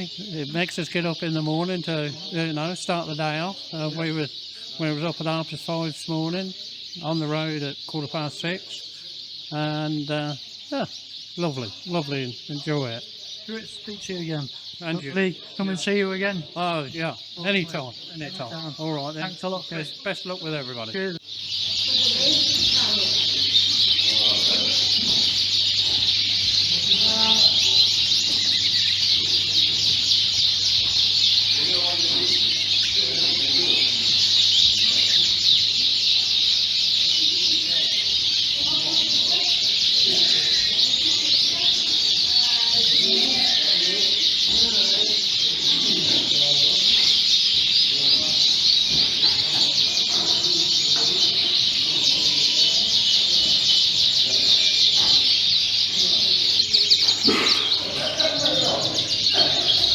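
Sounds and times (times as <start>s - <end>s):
canaries singing in chorus: 0.0s - 59.9s.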